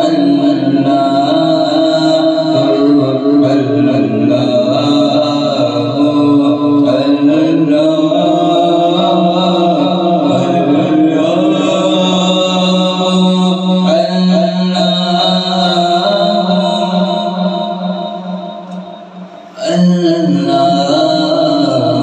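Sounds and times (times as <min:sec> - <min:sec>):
person chanting religious recitation: 0:00.0 - 0:22.0.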